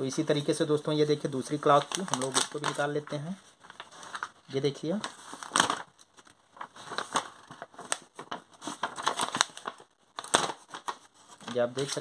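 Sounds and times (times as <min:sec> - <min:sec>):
paper sheets rustling: 0:01.4 - 0:12.0.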